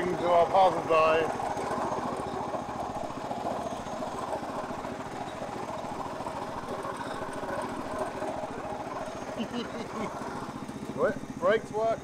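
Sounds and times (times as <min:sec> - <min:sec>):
lawn tractor engine puttering: 0:00.0 - 0:12.0.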